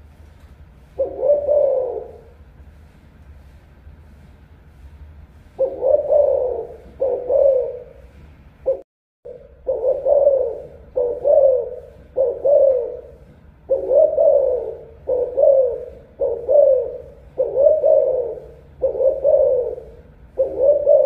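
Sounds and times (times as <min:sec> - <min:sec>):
dove cooing: 0:01.0 - 0:02.4, 0:05.6 - 0:21.0.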